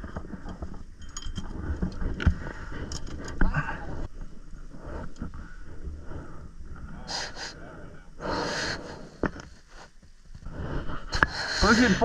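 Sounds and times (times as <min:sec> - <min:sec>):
person breathing hard: 0:02.0 - 0:12.0.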